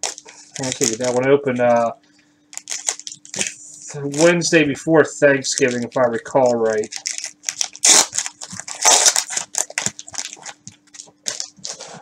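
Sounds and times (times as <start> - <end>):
cellophane wrapper crinkling and tearing: 0.0 - 4.6, 5.3 - 12.0.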